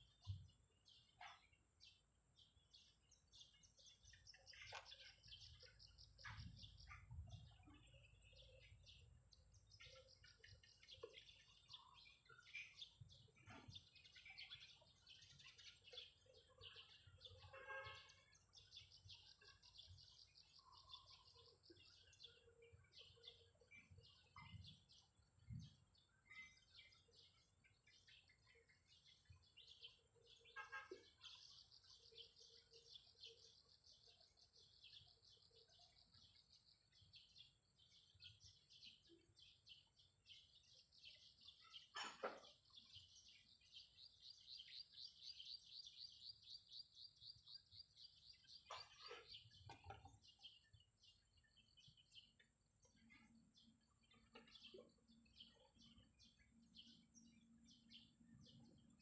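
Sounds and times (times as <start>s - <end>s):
faint birds chirping: 0.0s - 59.0s.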